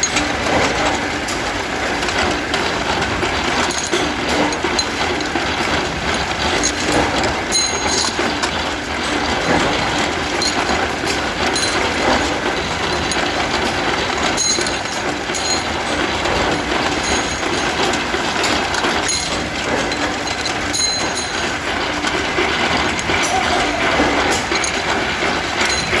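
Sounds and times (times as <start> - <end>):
rebar straightening machine clatter: 0.0 - 26.0.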